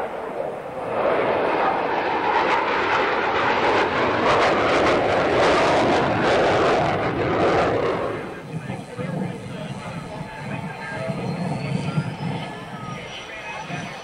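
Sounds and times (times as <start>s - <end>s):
jet engine flying past: 0.0s - 14.0s.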